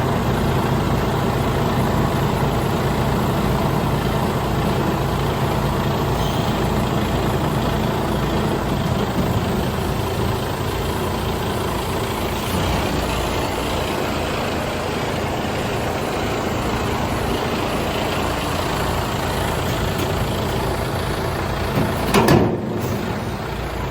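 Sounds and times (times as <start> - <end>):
truck diesel engine idling: 0.0 - 23.9.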